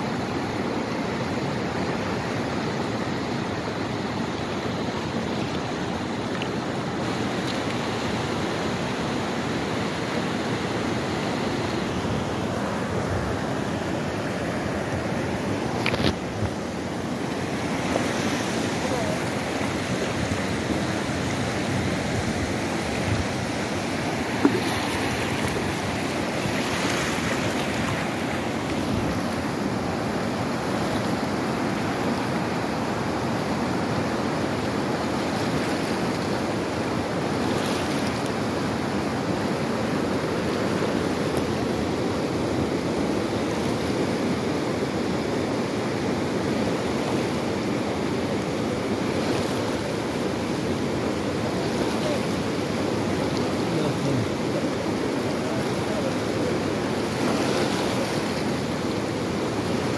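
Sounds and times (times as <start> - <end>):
river rushing over stones: 0.0 - 59.9.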